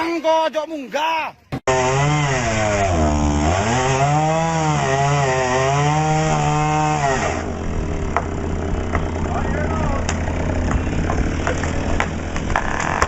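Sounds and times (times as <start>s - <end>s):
engine revving: 1.7s - 13.0s.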